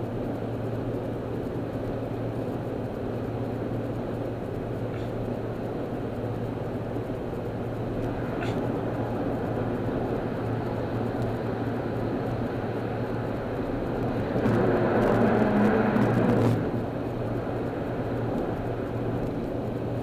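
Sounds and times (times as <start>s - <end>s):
car engine hum: 0.0s - 20.0s.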